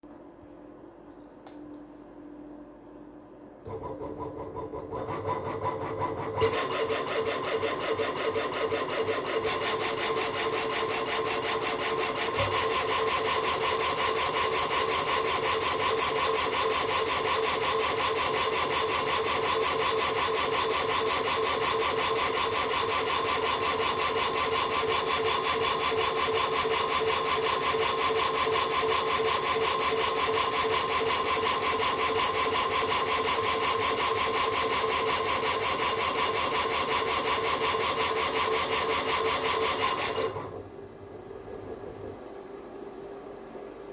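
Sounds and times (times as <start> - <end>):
fast pulsing noise: 3.7 - 40.4.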